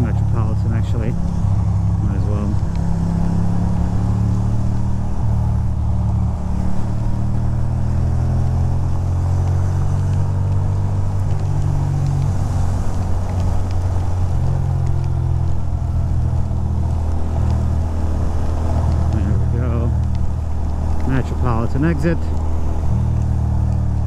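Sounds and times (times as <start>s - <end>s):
motorcycle engine cruising: 0.0s - 24.0s
wind and wet-road noise: 0.0s - 24.0s.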